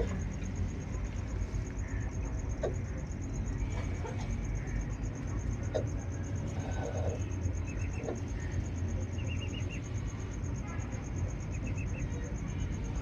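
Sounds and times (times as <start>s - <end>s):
insect trilling: 0.0s - 13.0s
steady low rumble: 0.0s - 13.0s.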